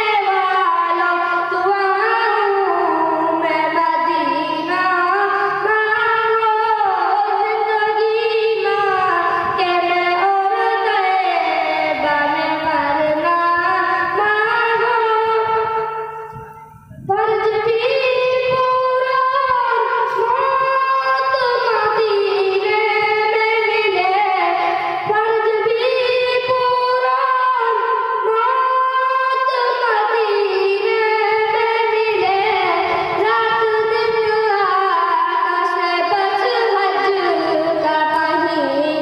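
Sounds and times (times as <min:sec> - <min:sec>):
boy singing into a microphone: 0:00.0 - 0:39.0.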